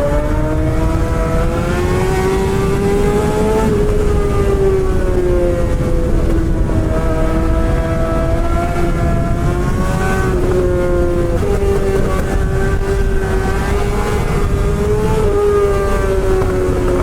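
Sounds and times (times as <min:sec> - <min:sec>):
motorcycle engine at high revs: 0:00.0 - 0:17.0
wind rumble on microphone: 0:00.0 - 0:17.0.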